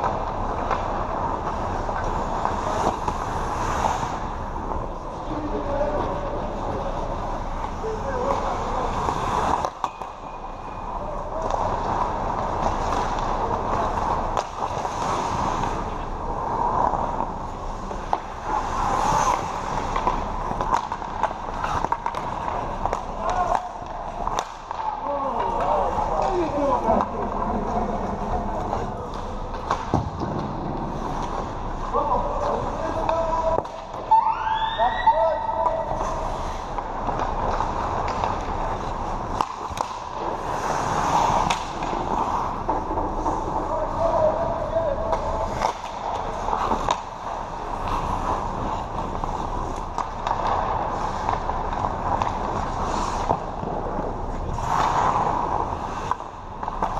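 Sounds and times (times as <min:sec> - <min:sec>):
hockey sticks and puck clacking: 0:00.0 - 0:56.9
skate blades scraping ice: 0:00.0 - 0:56.9
steady rink hum: 0:00.0 - 0:56.9.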